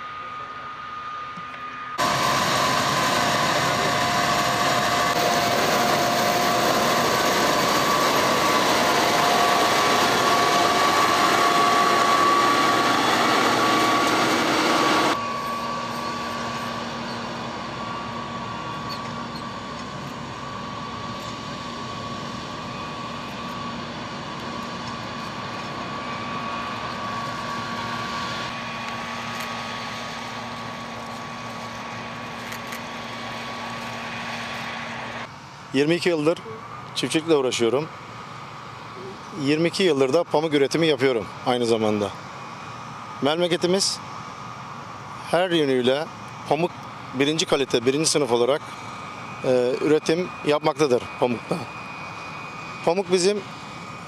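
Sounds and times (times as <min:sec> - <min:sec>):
cotton picker drone with whine: 0:00.0 - 0:54.0.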